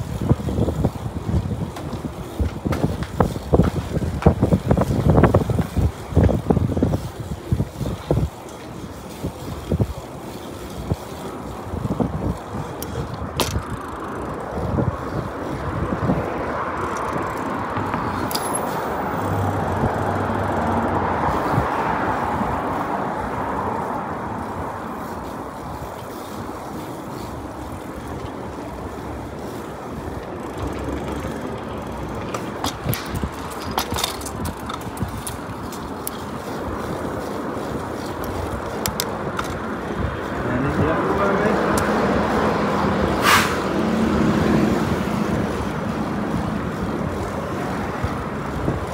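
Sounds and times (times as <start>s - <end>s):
bicycle rolling rush: 0.0s - 48.9s
street traffic: 0.0s - 48.9s.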